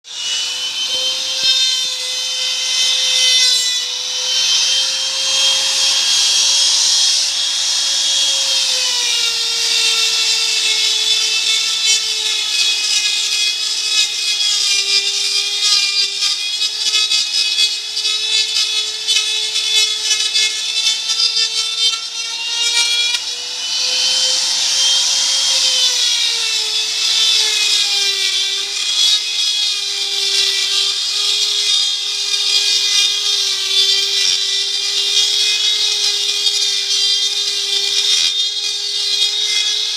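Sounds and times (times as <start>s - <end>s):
wood router whining: 0.0s - 39.9s.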